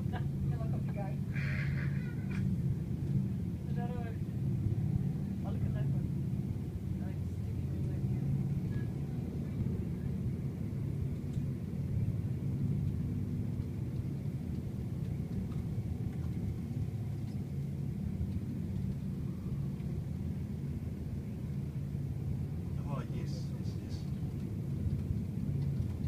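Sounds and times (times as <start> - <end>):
helicopter rotor rumble: 0.0 - 26.0.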